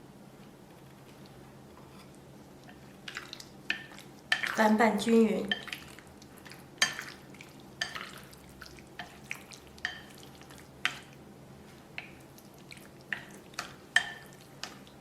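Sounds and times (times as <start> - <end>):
chicken mixed through wet batter: 2.0 - 15.0.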